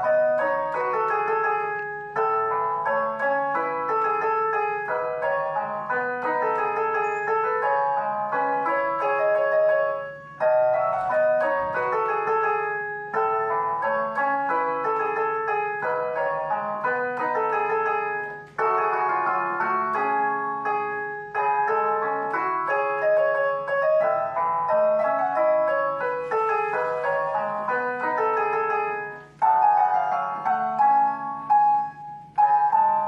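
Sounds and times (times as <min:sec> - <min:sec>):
digital piano melody: 0:00.0 - 0:33.0.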